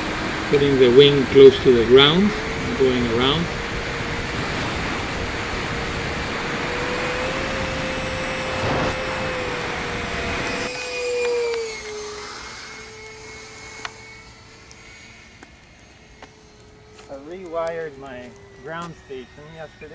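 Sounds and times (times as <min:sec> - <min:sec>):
rushing noise: 0:00.0 - 0:17.3
electric ducted fans whining: 0:00.0 - 0:19.9.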